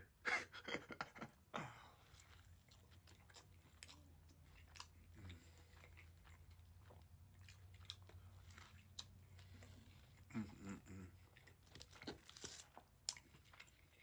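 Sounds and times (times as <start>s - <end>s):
person chewing and crunching: 1.3s - 14.0s.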